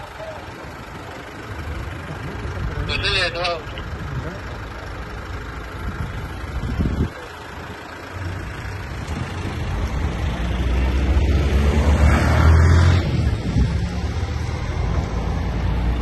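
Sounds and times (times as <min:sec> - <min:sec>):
large vehicle engine rumbling: 0:00.0 - 0:16.0.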